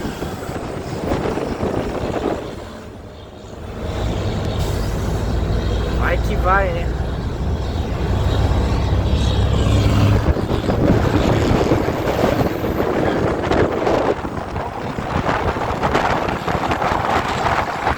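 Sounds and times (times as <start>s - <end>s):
diesel truck engine running: 2.8s - 17.9s.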